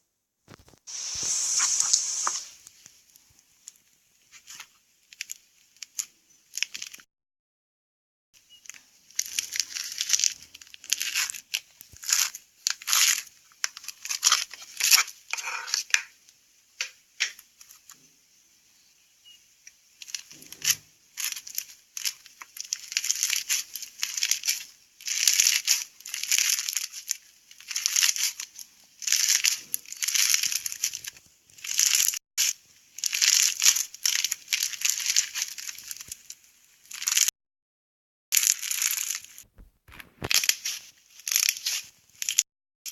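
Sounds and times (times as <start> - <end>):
slime crackling and crinkling: 0.5 - 2.8, 3.7 - 7.0, 8.7 - 15.9, 20.0 - 37.3, 38.4 - 42.9.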